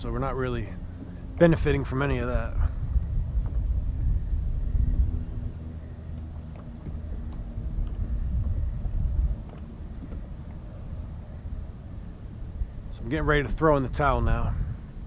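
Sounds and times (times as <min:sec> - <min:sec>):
faint ticks: 0:00.0 - 0:13.4
insect chorus: 0:00.0 - 0:15.0
low rumble: 0:00.0 - 0:15.0.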